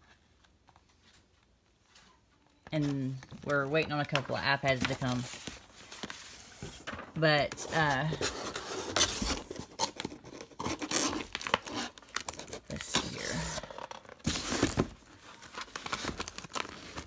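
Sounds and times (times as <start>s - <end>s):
cardboard and plastic rustling: 0.0s - 17.0s.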